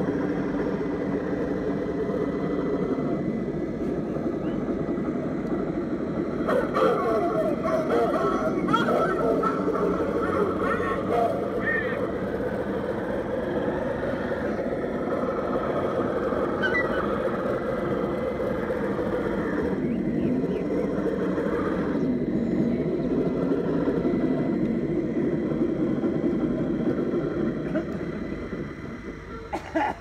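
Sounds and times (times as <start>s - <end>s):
simulated diesel engine rumble: 0.0s - 30.0s.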